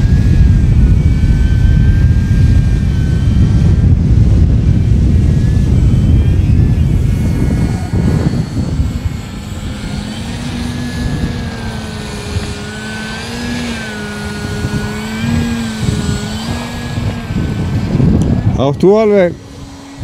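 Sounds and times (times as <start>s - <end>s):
model jet whine: 0.0s - 20.0s
wind buffeting microphone: 0.0s - 20.0s.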